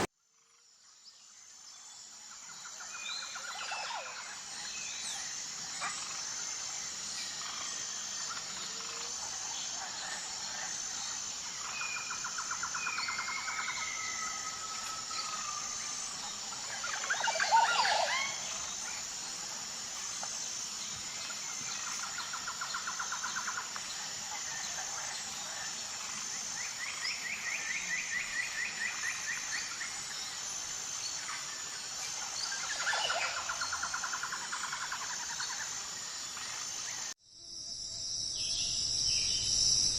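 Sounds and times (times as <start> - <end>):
high buzz of insects: 0.0 - 39.9.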